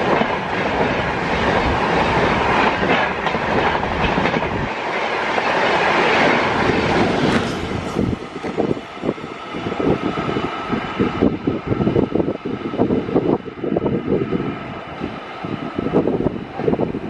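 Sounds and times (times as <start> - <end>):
wheels clattering on rail: 0.0 - 13.9
passenger train passing at speed: 0.0 - 17.0.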